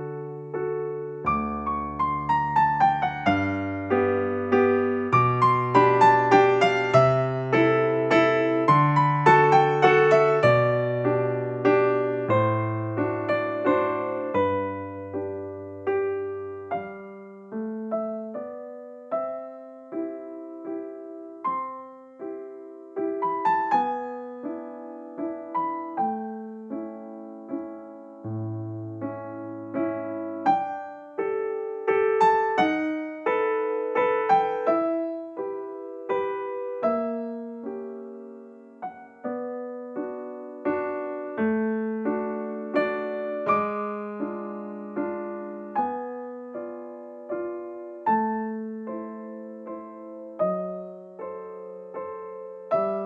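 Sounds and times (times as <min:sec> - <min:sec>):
gentle piano melody with bass: 0:00.0 - 0:53.0.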